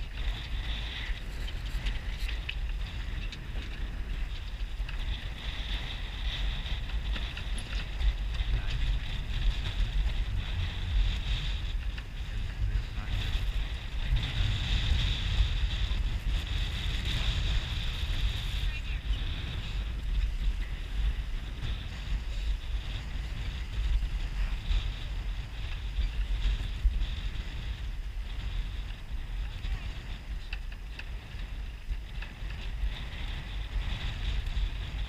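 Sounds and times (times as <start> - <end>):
hiss of wind and water: 0.0 - 35.0
wind buffeting microphone: 0.0 - 35.0.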